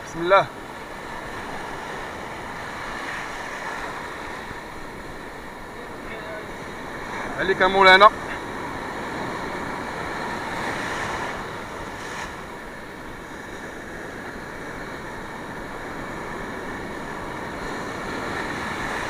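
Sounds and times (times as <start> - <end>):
sea surf washing in: 0.0 - 19.0.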